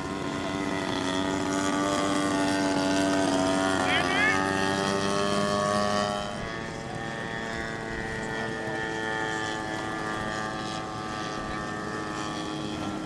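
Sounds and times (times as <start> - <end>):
model airplane engine buzzing: 0.0 - 13.0.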